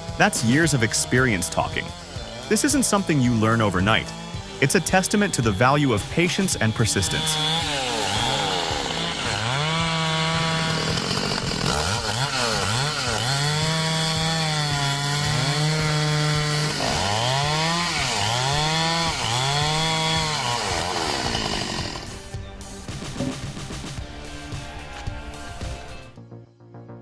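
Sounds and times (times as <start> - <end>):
chainsaw engine revving: 0.0 - 22.4.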